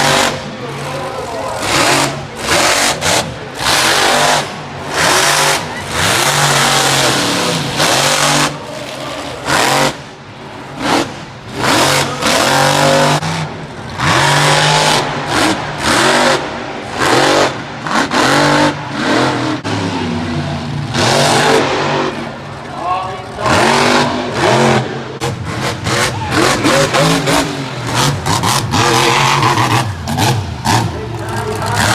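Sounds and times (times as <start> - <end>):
monster truck engine revving: 0.0 - 31.9.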